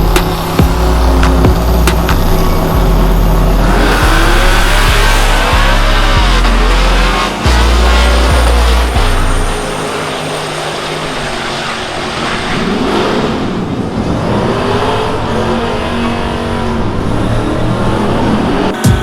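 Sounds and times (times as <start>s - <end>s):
truck engines running hard: 0.0s - 19.0s.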